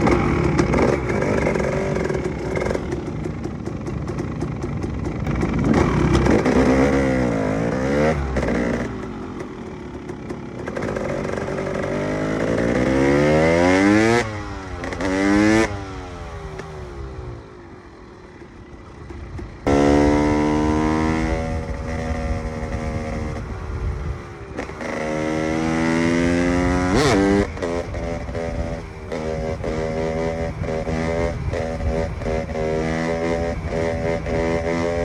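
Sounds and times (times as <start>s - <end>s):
dirt bike engine revving: 0.0s - 17.4s, 19.6s - 35.0s.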